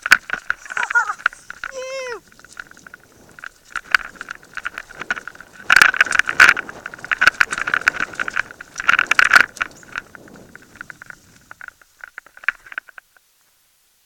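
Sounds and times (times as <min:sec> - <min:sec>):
mountain bike rattling and clattering: 0:00.0 - 0:13.3.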